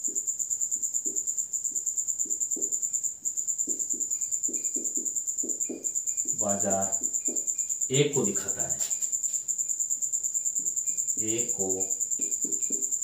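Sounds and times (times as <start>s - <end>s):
cricket trilling: 0.0s - 13.0s
marker writing on whiteboard: 1.0s - 9.5s, 10.5s - 13.0s.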